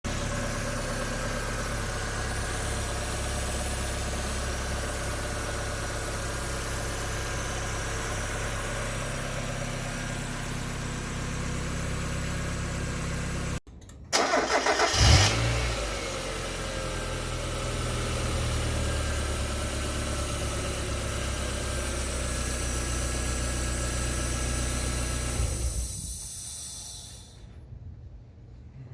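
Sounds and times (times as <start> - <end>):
car engine idling: 0.0 - 27.5
engine cranking and restarting: 0.0 - 27.6.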